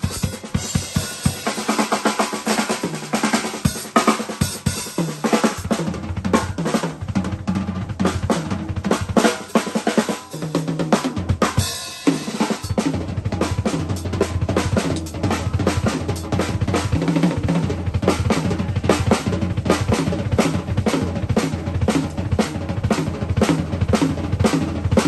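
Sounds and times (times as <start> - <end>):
drum kit playing fast fills: 0.0 - 25.0.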